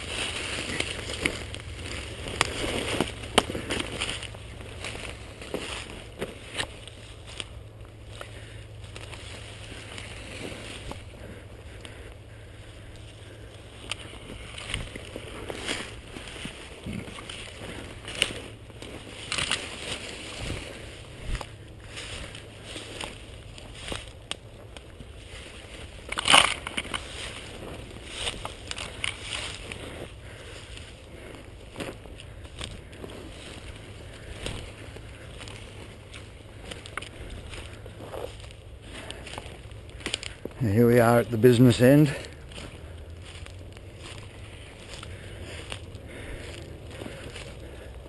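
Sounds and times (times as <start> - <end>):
twigs snapping: 0.0 - 40.6, 42.1 - 48.0
footsteps through rustling brush: 0.0 - 48.0
low wind rumble: 0.0 - 48.0.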